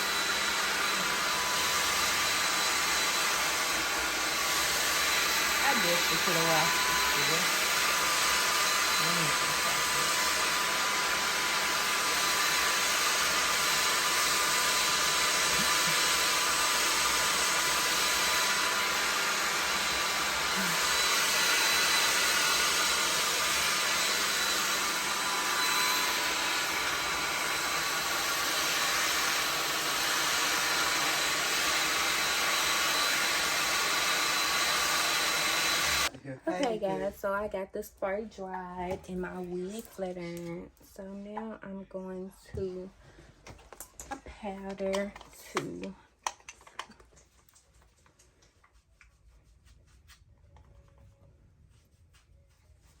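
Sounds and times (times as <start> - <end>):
hair dryer blowing: 0.0 - 37.4, 38.0 - 47.1.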